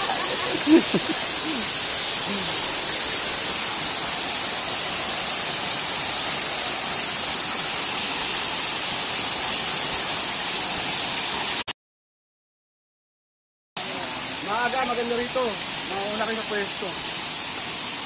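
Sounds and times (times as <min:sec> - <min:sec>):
waterfall rushing: 0:00.0 - 0:11.6, 0:13.8 - 0:18.0.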